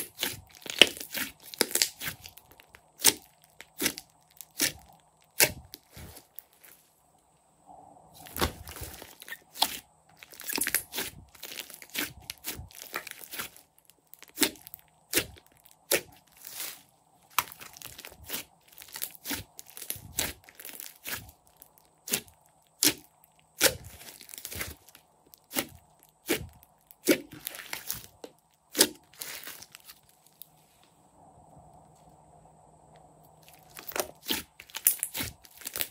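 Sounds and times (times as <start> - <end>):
slime popping and crackling: 0.0 - 6.4, 8.2 - 30.1, 33.4 - 35.9.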